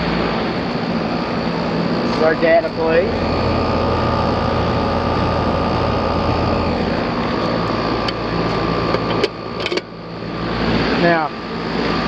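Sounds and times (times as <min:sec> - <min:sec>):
fan rushing: 0:00.0 - 0:12.0
low compressor hum: 0:00.0 - 0:12.0
thin steady whine: 0:00.0 - 0:12.0.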